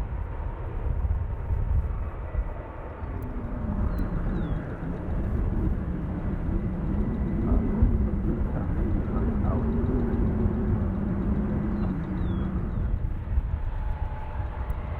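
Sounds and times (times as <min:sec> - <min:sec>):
jet engines rumbling: 0:00.0 - 0:14.9
wavering hum: 0:00.0 - 0:14.9.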